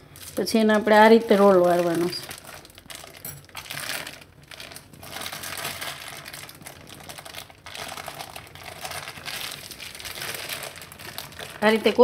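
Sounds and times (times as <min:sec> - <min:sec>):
plastic sheet crinkling: 0:00.0 - 0:12.0.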